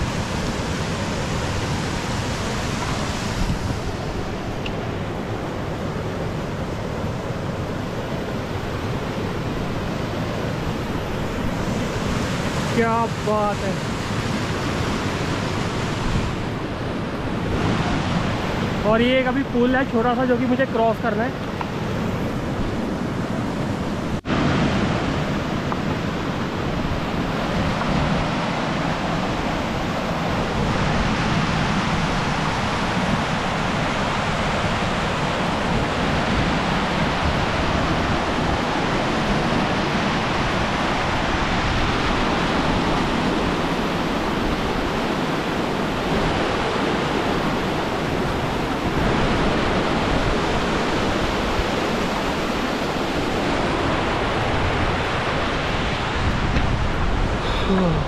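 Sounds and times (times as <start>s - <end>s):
mountain stream rushing: 0.0s - 58.0s.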